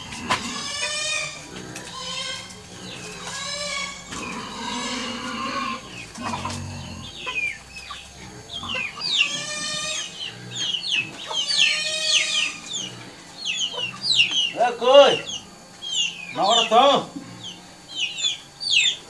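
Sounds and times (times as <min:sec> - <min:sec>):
chickens clucking and calling: 0:00.0 - 0:19.0.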